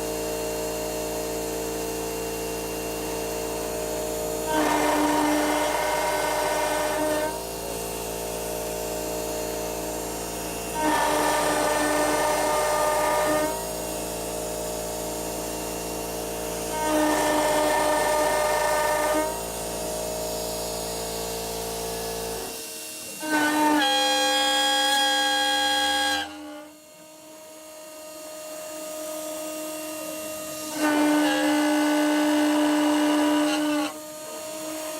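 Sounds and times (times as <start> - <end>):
cutter milling metal: 0.0 - 34.9
router spindle whine: 0.0 - 34.9.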